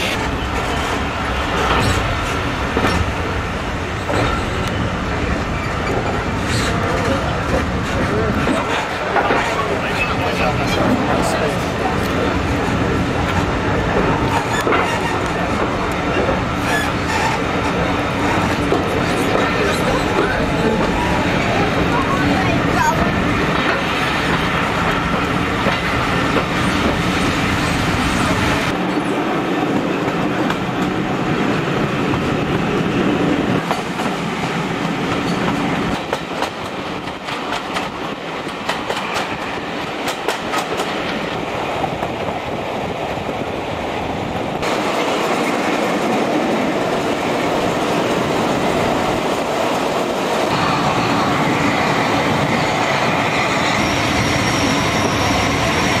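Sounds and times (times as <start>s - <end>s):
wheels rumbling and rattling on rails: 0.0s - 56.0s.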